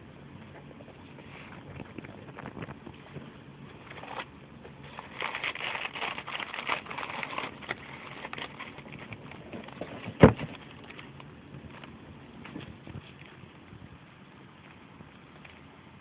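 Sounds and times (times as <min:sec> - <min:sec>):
close crackling and rustling: 0:00.0 - 0:16.0.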